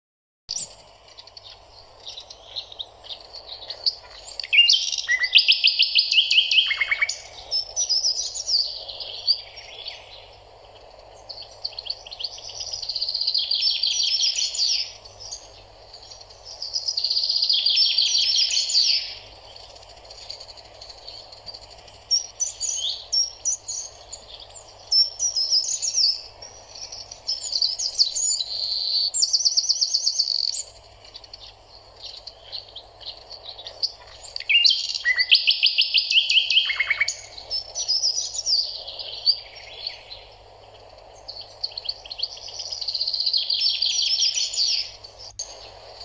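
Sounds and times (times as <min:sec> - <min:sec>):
small birds trilling: 0:00.5 - 0:46.0
steady low hiss: 0:00.5 - 0:46.0.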